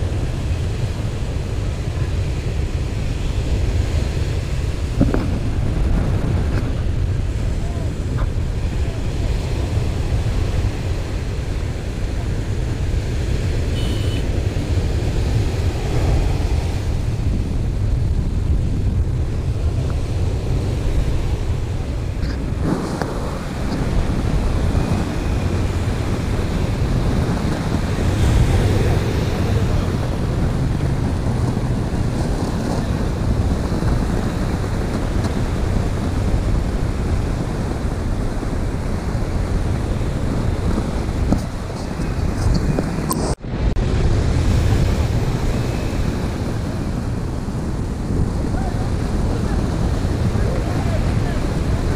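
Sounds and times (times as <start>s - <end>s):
breaking surf: 0.0s - 51.9s
wind buffeting microphone: 0.0s - 51.9s.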